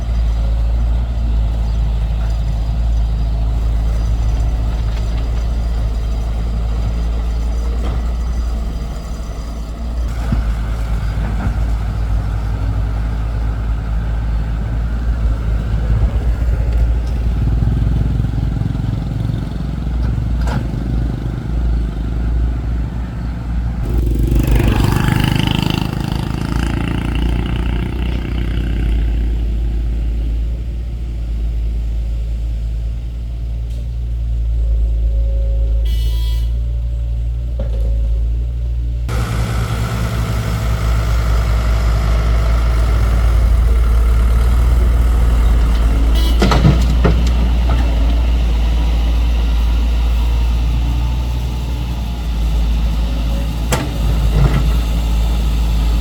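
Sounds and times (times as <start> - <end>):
excavator diesel engine rumbling: 0.0 - 56.0.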